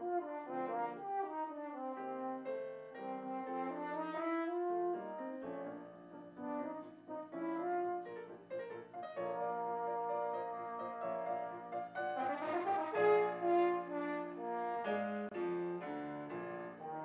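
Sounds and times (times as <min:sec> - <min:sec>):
french horn melody: 0:00.0 - 0:17.0
piano accompaniment: 0:00.0 - 0:17.0.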